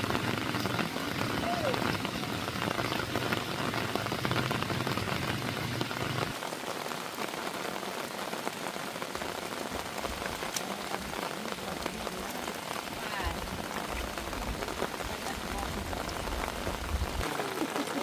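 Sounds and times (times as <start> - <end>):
heavy rain patter: 0.0 - 18.0.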